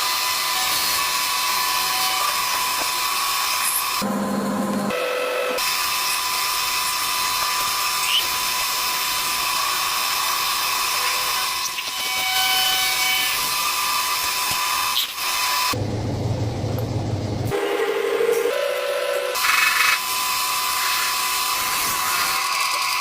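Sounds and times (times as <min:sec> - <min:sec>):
power tool high-pitched whine: 0:00.0 - 0:15.8, 0:17.5 - 0:23.0.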